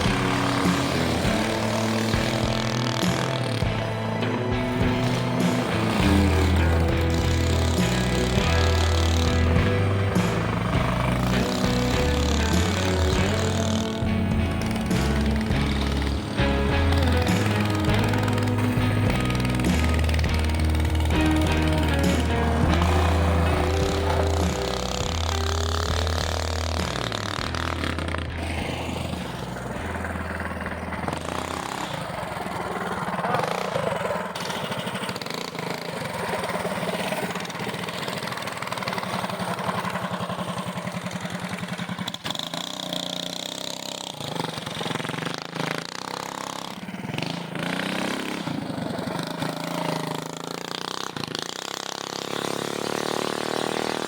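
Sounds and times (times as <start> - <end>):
small mini bike engines running: 0.0 - 54.0.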